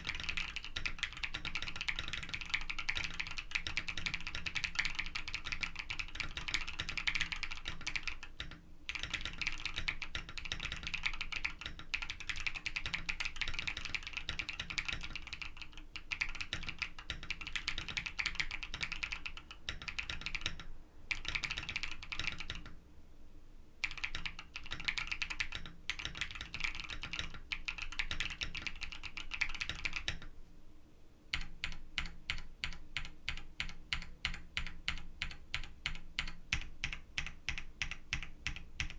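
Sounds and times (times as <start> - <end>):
mechanical keyboard typing: 0.0 - 22.8, 23.8 - 30.3, 31.3 - 38.9.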